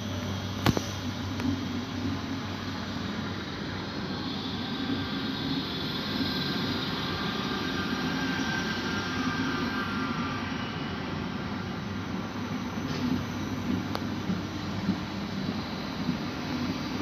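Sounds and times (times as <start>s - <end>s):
electric train rolling past: 0.0s - 17.0s
faint high whining tones: 0.0s - 17.0s.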